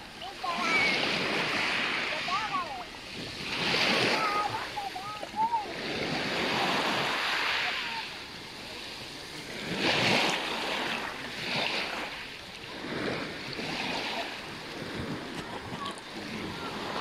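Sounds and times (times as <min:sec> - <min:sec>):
wind on microphone: 0:00.0 - 0:12.1, 0:12.7 - 0:17.0
sea water lapping and splashing: 0:00.0 - 0:17.0.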